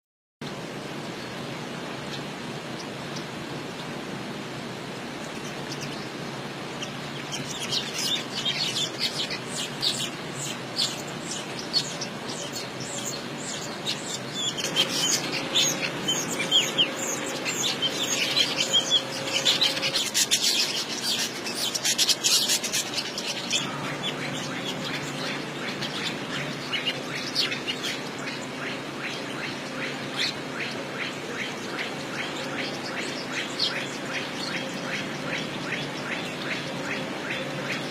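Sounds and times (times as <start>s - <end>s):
small birds chirping: 5.2s - 37.9s.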